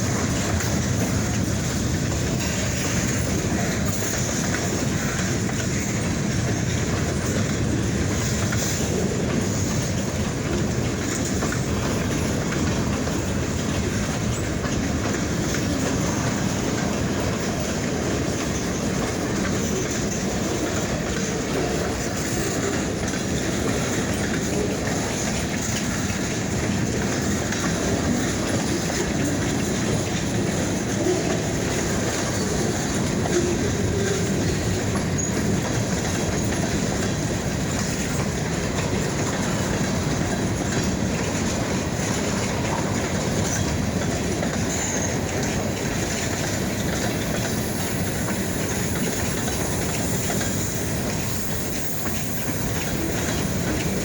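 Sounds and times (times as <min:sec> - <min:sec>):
freight train wheels clicking: 0:00.0 - 0:54.0.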